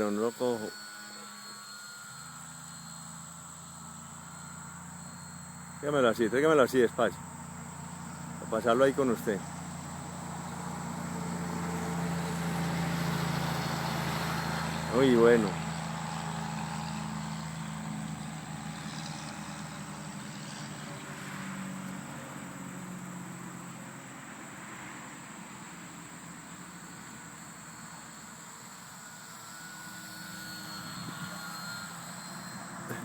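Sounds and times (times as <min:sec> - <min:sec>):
model airplane motor droning: 0:00.0 - 0:33.0.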